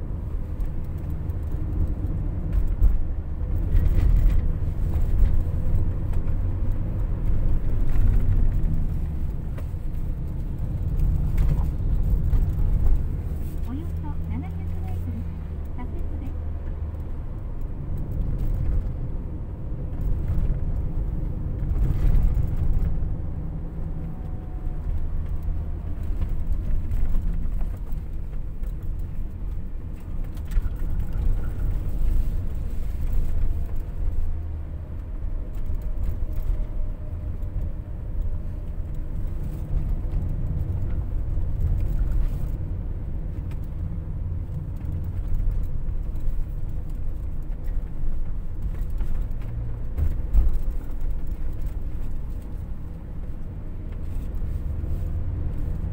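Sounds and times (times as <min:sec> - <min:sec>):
tyre and road rumble: 0:00.0 - 0:55.9.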